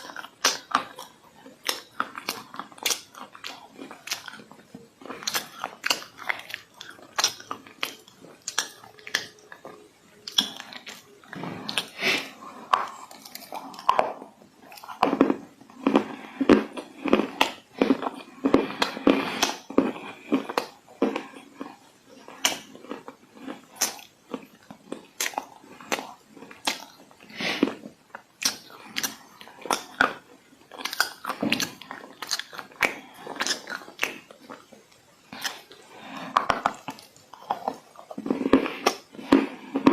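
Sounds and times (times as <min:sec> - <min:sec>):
dry clay crunching being chewed: 0:00.0 - 0:39.9.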